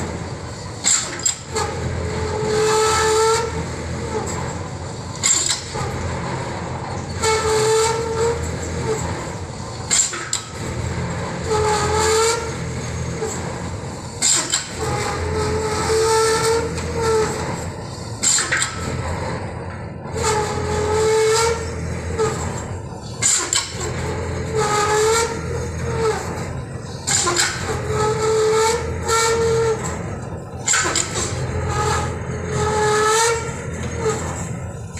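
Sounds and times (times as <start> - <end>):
machinery whining tone: 0.0 - 34.9.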